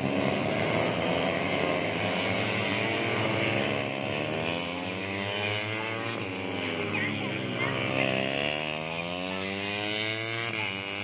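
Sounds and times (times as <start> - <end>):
race motorcycles passing at high revs: 0.0 - 11.0.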